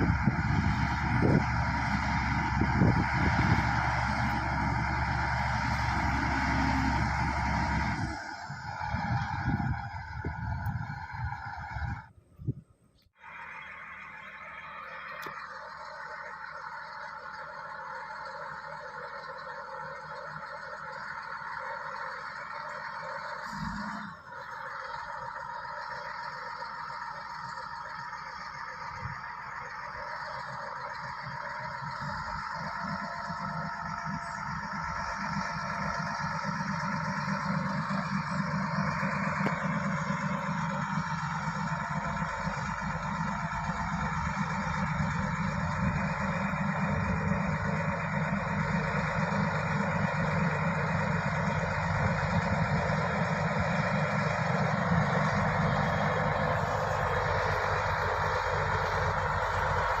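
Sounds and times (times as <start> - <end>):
bulldozer diesel engine running: 0.0 - 60.0.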